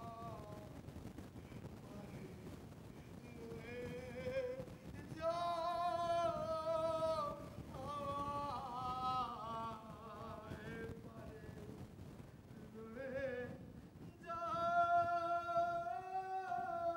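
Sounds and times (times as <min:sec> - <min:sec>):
person singing with vibrato: 0:00.0 - 0:00.8, 0:01.8 - 0:11.8, 0:12.6 - 0:16.9.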